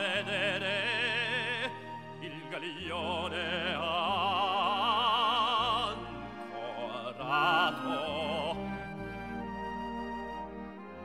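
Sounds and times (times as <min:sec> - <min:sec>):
operatic singing with vibrato: 0:00.0 - 0:10.0
orchestral accompaniment: 0:00.0 - 0:11.0.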